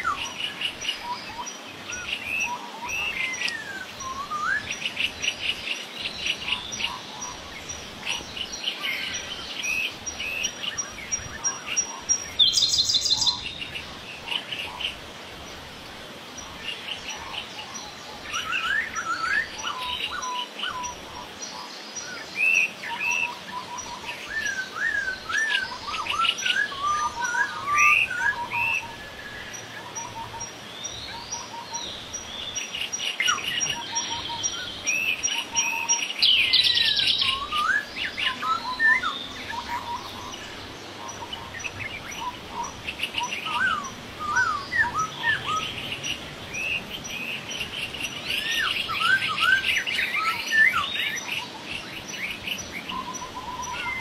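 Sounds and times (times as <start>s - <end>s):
birds calling and singing: 0.0s - 54.0s.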